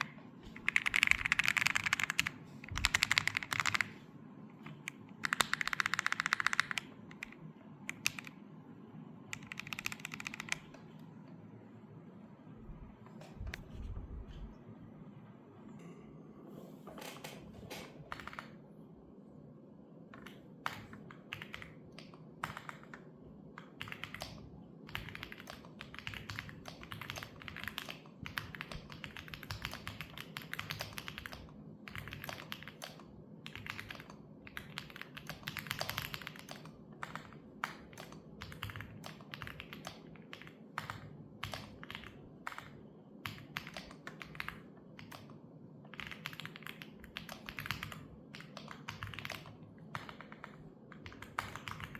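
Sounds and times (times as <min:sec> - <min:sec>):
computer keyboard typing: 0:00.0 - 0:08.4, 0:09.3 - 0:11.0, 0:17.2 - 0:18.6, 0:20.1 - 0:51.9.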